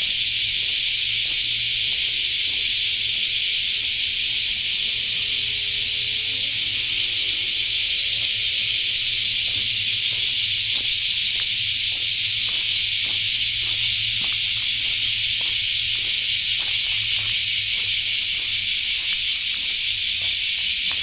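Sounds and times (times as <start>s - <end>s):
footsteps on a path: 0.0s - 21.0s
insect chorus: 0.0s - 21.0s.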